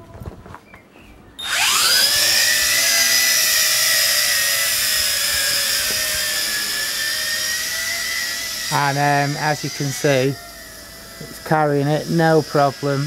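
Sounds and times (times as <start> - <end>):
drone propellers whining: 1.4 - 13.0.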